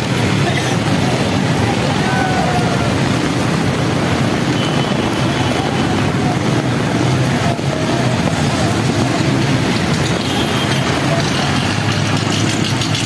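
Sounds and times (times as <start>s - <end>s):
heavy rain: 0.0s - 13.0s
tyres hissing on wet road: 0.0s - 13.0s
vehicle engines: 0.0s - 13.0s.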